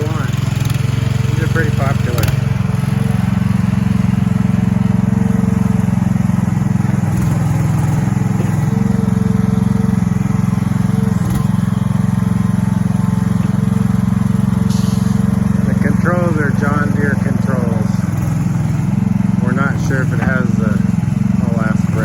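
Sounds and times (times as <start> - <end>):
small excavator engine running: 0.0 - 22.0.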